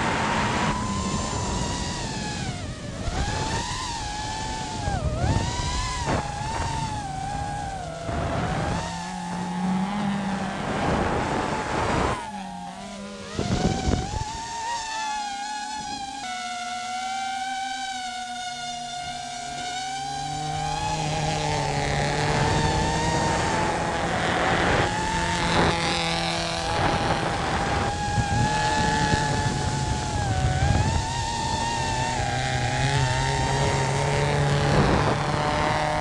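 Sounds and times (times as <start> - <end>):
drone motors whining: 0.0 - 36.0
rally car engine: 0.0 - 36.0.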